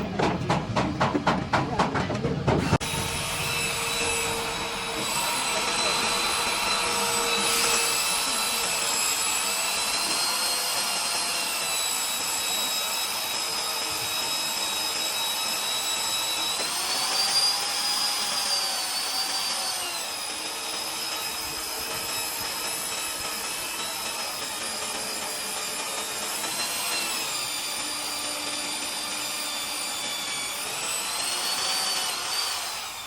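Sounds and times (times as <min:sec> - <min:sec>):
electric drill drilling into steel: 0:02.6 - 0:33.0.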